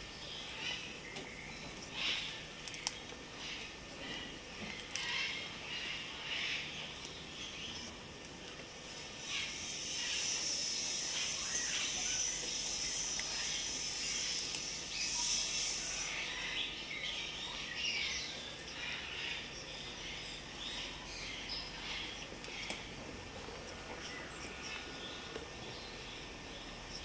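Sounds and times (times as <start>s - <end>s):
birds chirping and twittering: 0.0s - 27.0s.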